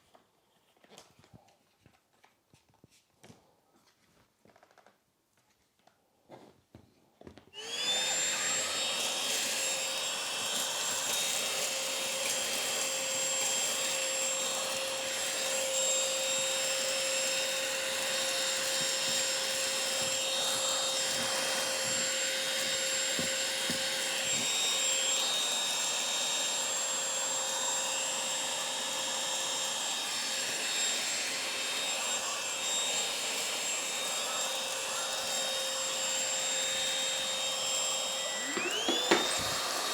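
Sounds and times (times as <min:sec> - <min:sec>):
handheld vacuum cleaner running: 0:07.5 - 0:39.9.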